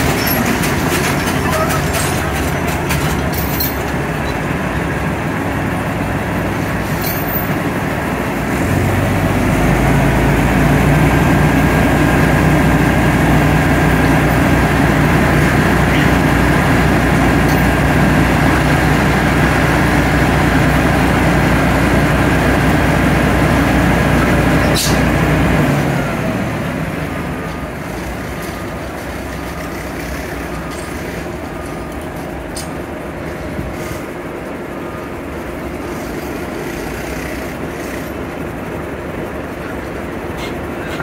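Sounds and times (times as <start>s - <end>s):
heavy diesel engine whining: 0.0s - 41.0s.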